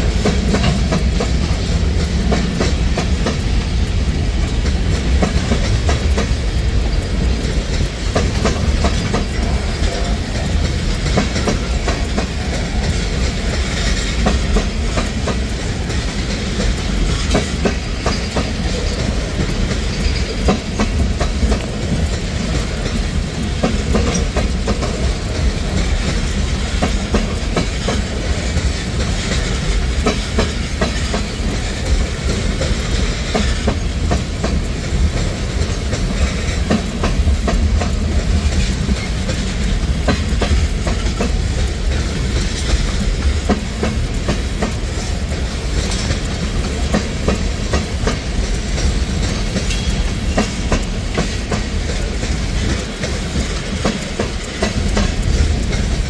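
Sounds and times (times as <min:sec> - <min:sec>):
train wheels clacking over rails: 0:00.0 - 0:56.0.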